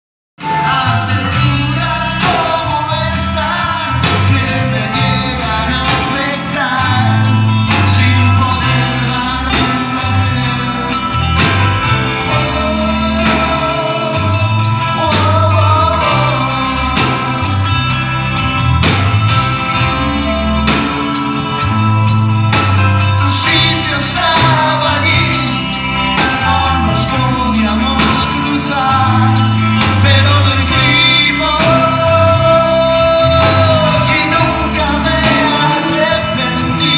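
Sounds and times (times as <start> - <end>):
drum kit beat: 0.4 - 36.9
electric bass: 0.4 - 36.9
electric guitars: 0.4 - 36.9
keyboards: 0.4 - 36.9
male lead vocal: 0.4 - 36.9.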